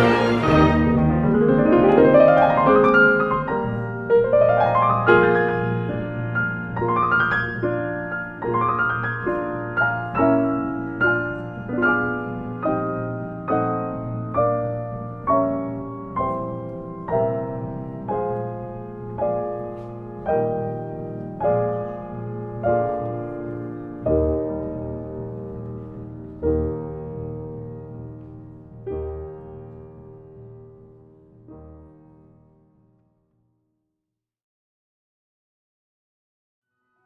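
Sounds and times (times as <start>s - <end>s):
piano chords: 0.0s - 33.2s.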